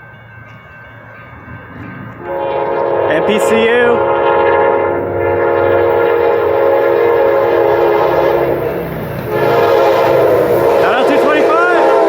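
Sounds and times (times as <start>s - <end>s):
low rumble of approaching train: 0.0s - 12.0s
train horn blasts: 2.2s - 12.0s.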